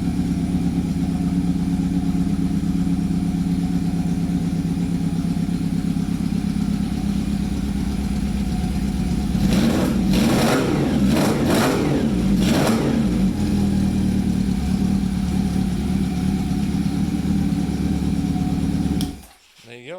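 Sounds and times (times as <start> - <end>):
motorcycle engine idling and revving: 0.0 - 19.2.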